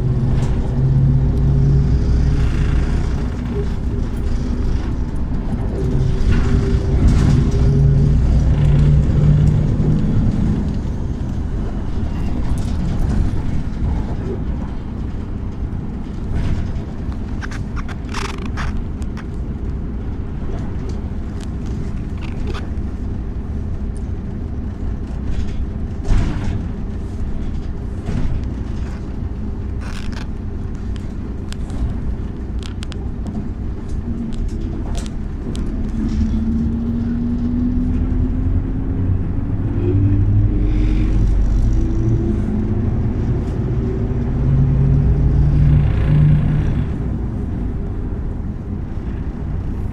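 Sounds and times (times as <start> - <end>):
rising engine whine: 0.0 - 25.5, 28.7 - 49.9
bus engine and road rumble: 0.0 - 49.9.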